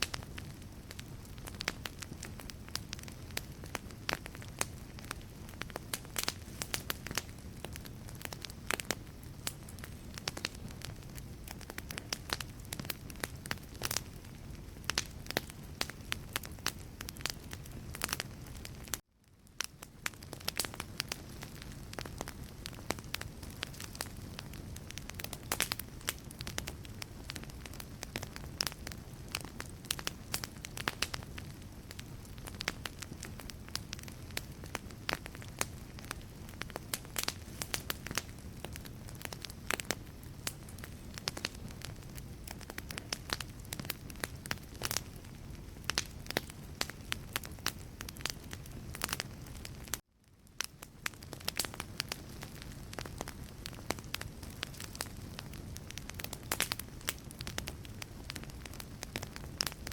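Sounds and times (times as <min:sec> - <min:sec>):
flame rumbling: 0:00.0 - 0:59.9
logs crackling and popping: 0:00.0 - 0:59.9.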